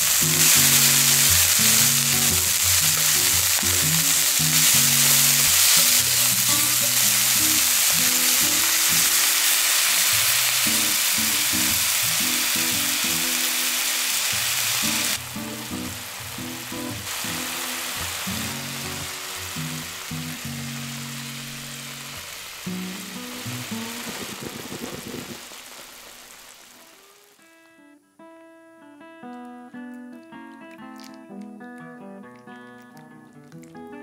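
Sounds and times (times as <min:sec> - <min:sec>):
sauce bubbling: 0:00.0 - 0:27.2, 0:30.4 - 0:34.0
chicken and onion sizzling in pan: 0:00.0 - 0:27.4.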